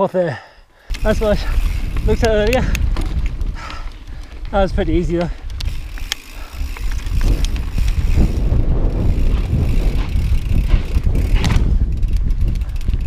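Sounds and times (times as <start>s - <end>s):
bike clicks and rattles: 0.7s - 13.0s
mountain bike rolling on rocky trail: 0.7s - 13.0s
wind buffeting microphone: 0.9s - 13.0s.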